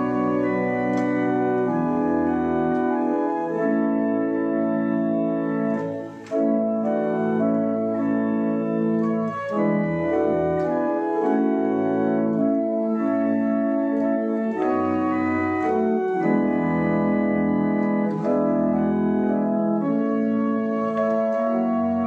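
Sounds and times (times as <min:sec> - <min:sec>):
church organ playing a hymn: 0:00.0 - 0:22.0.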